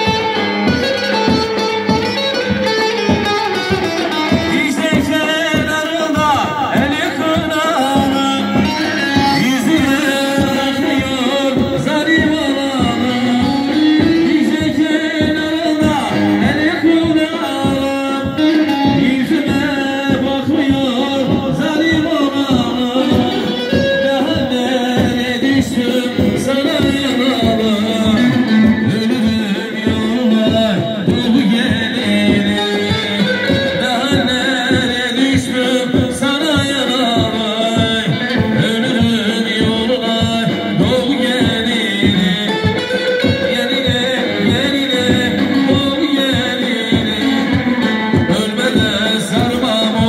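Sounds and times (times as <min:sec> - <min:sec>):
fast drum beat: 0:00.0 - 0:50.0
folk melody on saz: 0:00.0 - 0:50.0
person singing: 0:00.0 - 0:50.0.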